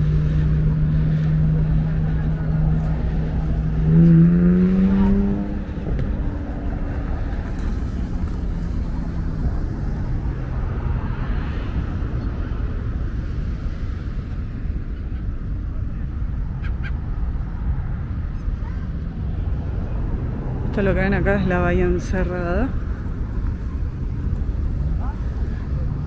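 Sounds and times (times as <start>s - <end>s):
low traffic rumble: 0.0s - 26.0s
vehicle engine passing by: 0.0s - 26.0s.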